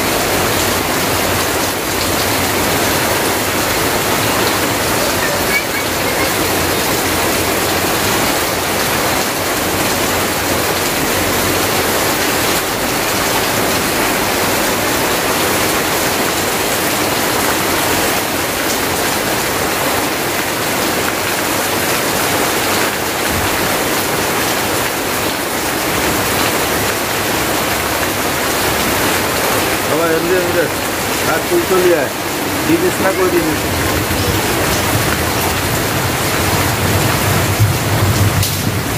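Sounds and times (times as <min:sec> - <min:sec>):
heavy rain splashing on ground: 0:00.0 - 0:38.9
runoff pouring off roof: 0:00.0 - 0:38.9.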